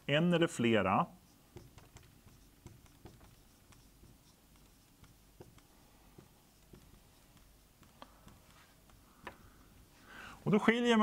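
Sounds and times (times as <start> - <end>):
marker writing on whiteboard: 0.6 - 10.1.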